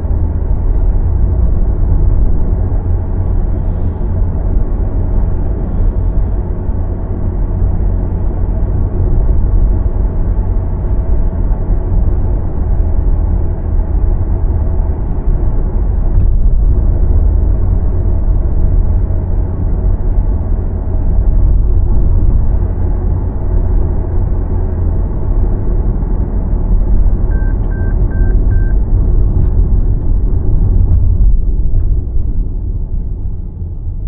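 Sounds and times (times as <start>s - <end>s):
car driving on road: 0.0s - 34.0s.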